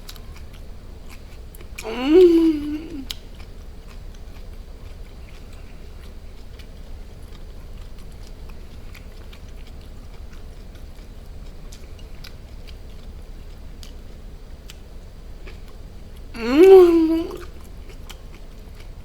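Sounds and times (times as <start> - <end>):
low steady hum: 0.0 - 19.0
person chewing food: 0.0 - 19.0.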